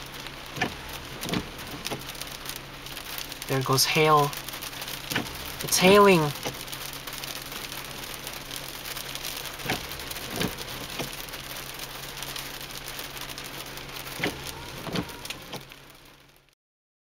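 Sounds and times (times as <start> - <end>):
hail and rain pattering: 0.0 - 16.6.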